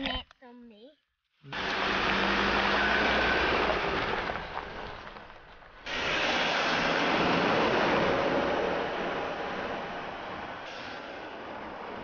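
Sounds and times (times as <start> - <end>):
car driving past on gravel: 1.5 - 12.0.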